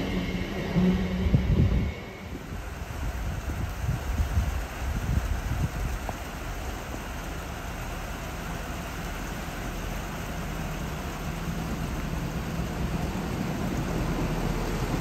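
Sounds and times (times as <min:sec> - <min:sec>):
rail rumble: 0:00.0 - 0:15.0
train engine hum: 0:00.0 - 0:15.0.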